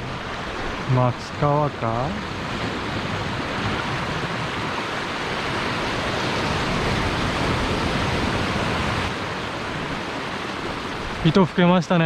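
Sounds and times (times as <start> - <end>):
sea surf on rocky shore: 0.0 - 12.0.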